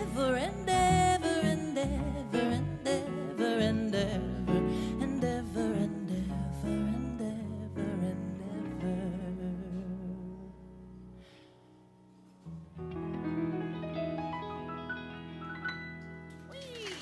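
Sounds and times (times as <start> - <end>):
bass: 0.0 - 17.0.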